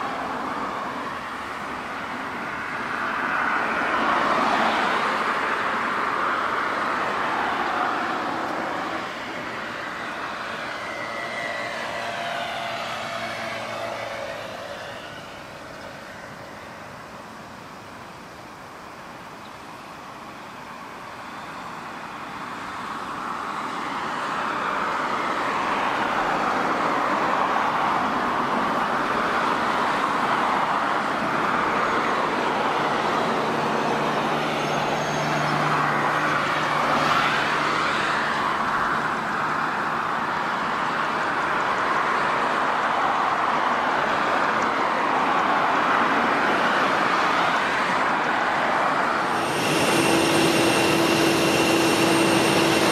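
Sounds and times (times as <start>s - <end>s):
jet engines passing: 0.0s - 52.9s.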